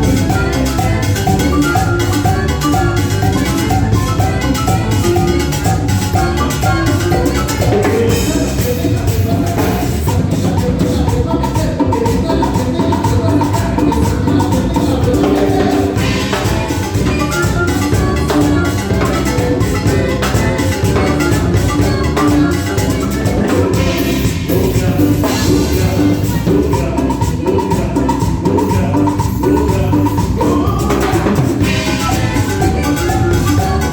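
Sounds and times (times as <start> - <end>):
drums and percussion beat: 0.0 - 33.9
live band playing latin dance music: 0.0 - 33.9.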